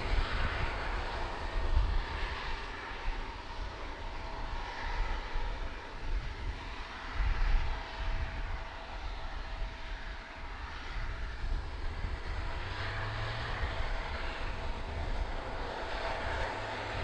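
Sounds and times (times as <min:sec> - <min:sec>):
aircraft engine drone: 0:00.0 - 0:17.0
thin steady whine: 0:00.0 - 0:17.0.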